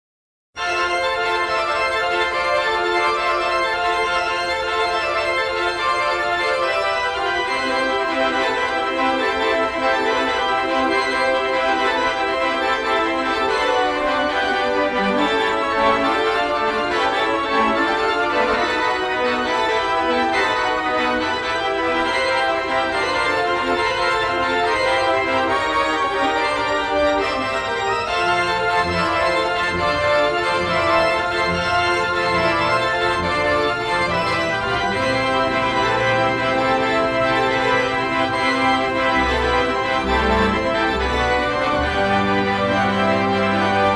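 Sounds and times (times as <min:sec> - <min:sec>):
organ sustained chords: 0:00.6 - 0:43.9.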